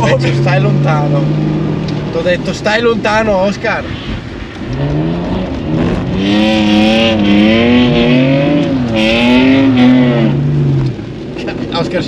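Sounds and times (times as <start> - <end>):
diesel engine revving: 0.0 - 3.0, 4.5 - 11.3.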